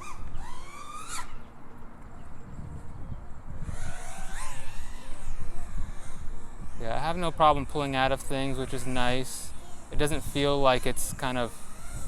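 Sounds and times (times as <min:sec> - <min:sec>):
drone motors whining: 0:00.0 - 0:12.0
wind rumble on microphone: 0:00.0 - 0:12.0.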